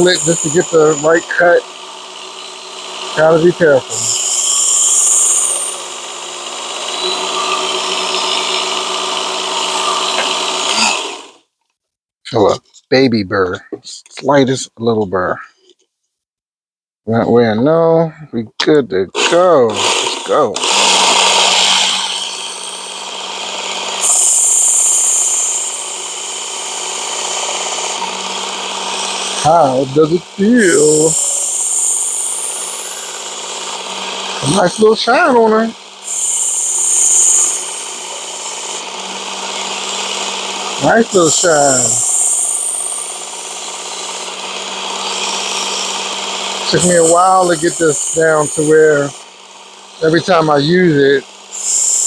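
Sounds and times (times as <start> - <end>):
belt sharpener motor whine: 0.0 - 11.4, 19.2 - 52.0.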